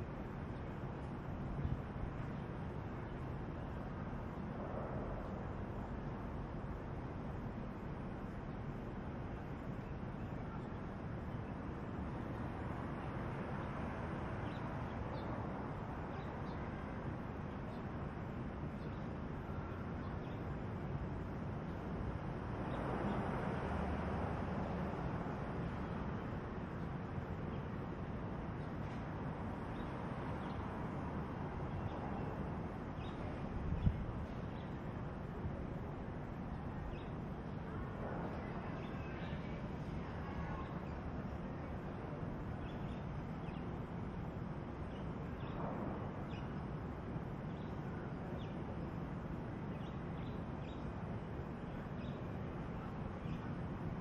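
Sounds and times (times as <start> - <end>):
distant traffic hum: 0.0 - 54.0.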